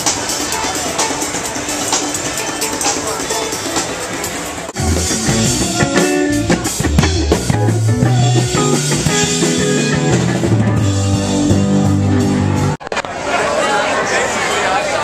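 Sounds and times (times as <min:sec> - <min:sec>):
rock band playing: 0:00.0 - 0:12.8.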